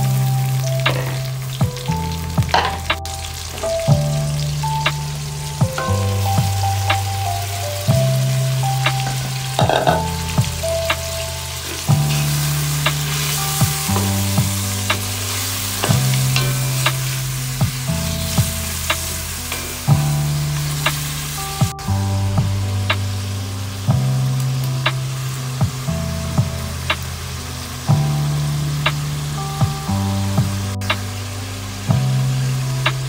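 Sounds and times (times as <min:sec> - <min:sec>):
background music with bass: 0:00.0 - 0:33.0
seafood sizzling in a pot: 0:00.0 - 0:33.0.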